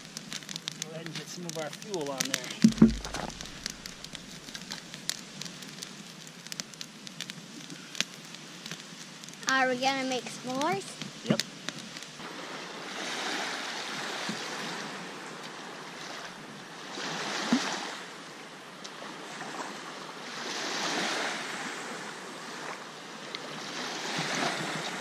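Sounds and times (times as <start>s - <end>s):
waves washing onto sandy shore: 0.0s - 25.0s.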